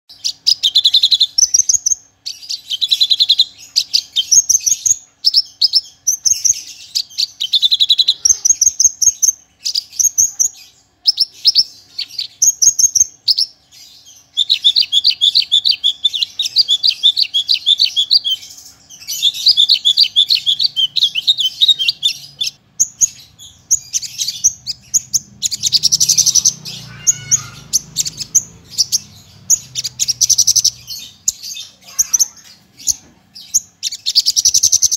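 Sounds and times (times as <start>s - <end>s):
bird singing trills: 0.1s - 34.9s.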